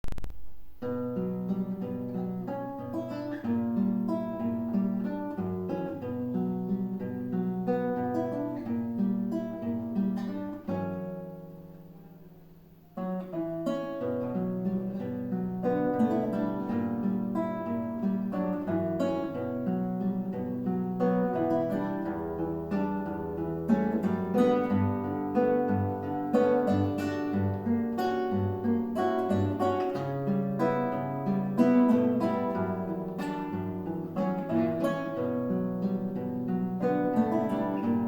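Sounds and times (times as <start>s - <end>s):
plucked-string duet melody: 0.8s - 38.0s.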